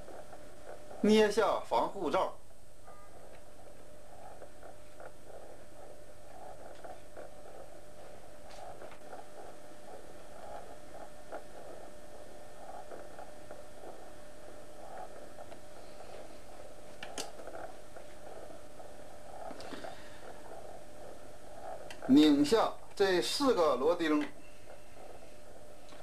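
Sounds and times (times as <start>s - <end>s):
background hum and hiss: 0.0s - 26.0s.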